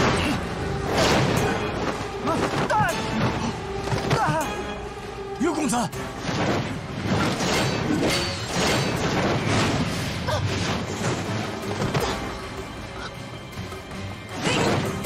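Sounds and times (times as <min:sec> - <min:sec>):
action film music: 0:00.0 - 0:15.0.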